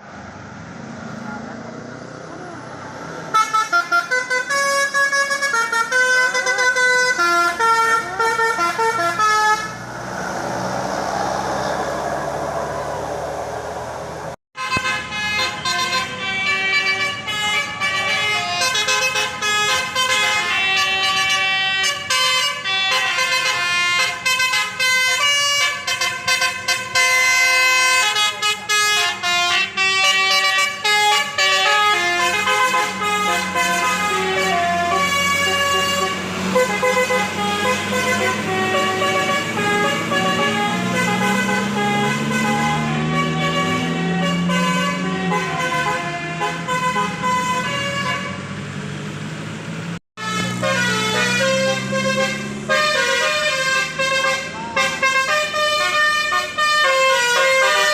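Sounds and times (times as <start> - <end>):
multi-tone bus air horn tune: 3.3 - 9.9, 14.6 - 48.5, 50.2 - 57.9.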